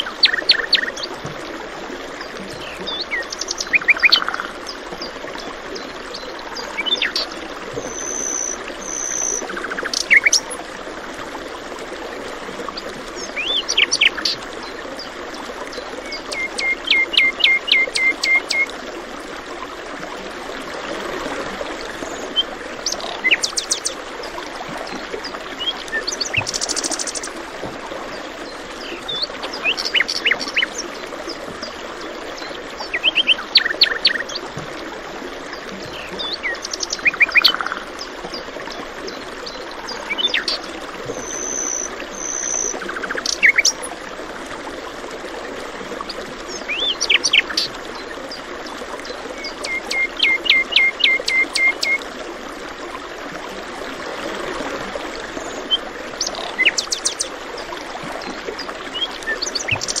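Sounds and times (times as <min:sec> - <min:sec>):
running water: 0:00.0 - 1:00.0.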